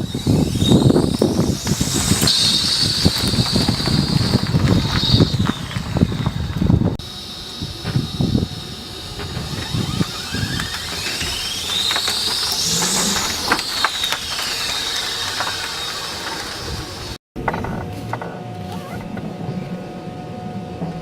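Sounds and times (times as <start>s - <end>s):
electric motor whining: 0.0s - 17.2s.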